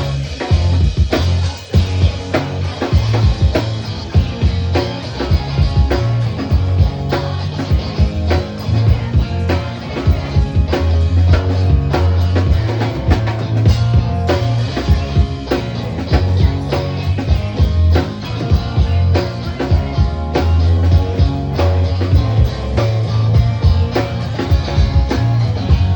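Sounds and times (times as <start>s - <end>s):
drum kit: 0.0s - 25.9s
guitar: 0.0s - 25.9s
heavy bass notes: 0.0s - 25.9s.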